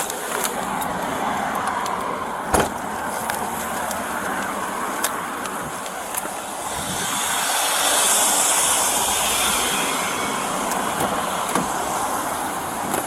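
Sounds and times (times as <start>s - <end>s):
roadside traffic noise: 0.0s - 13.0s.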